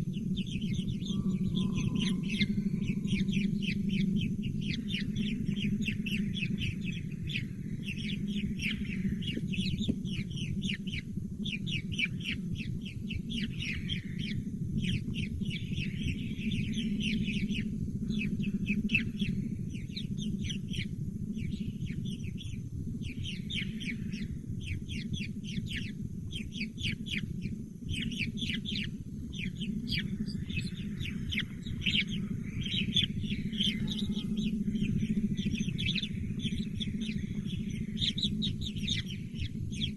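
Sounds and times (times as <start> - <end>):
baby birds chirping: 0.0 - 39.9
steady low hum: 0.0 - 39.9.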